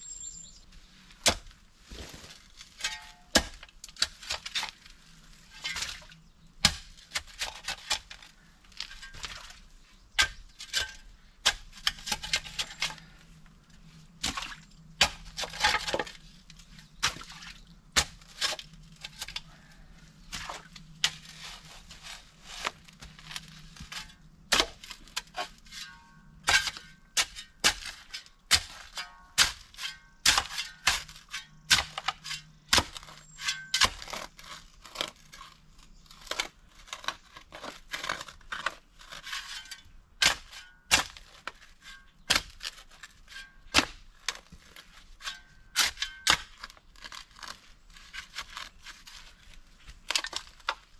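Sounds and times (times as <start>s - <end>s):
shovel digging stony soil: 1.0s - 13.4s, 14.2s - 50.9s.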